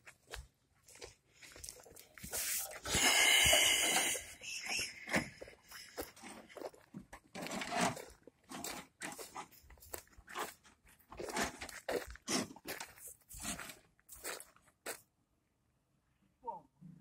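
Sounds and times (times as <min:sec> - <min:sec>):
footsteps crunching on gravel: 0:00.0 - 0:04.4, 0:05.2 - 0:15.0.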